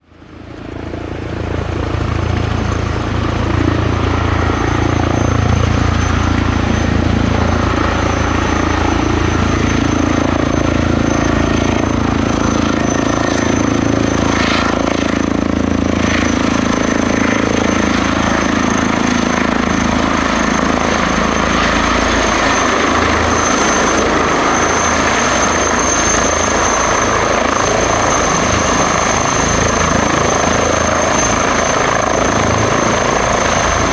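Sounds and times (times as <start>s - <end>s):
helicopter rotor noise: 0.0s - 33.9s
high turbine whine: 0.0s - 33.9s.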